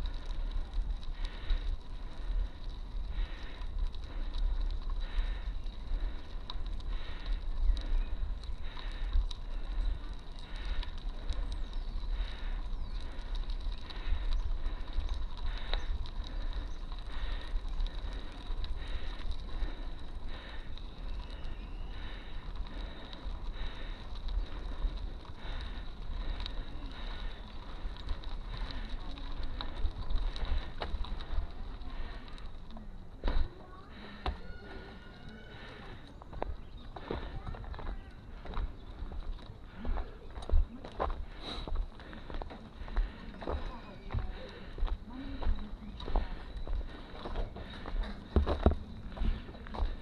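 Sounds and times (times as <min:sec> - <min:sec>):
bicycle tyre and wind rumble: 0:00.0 - 0:50.0.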